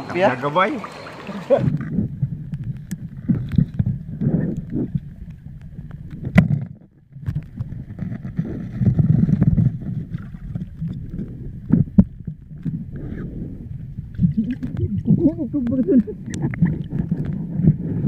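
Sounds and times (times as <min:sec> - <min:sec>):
underwater rumble of moving water: 0:00.0 - 0:18.0.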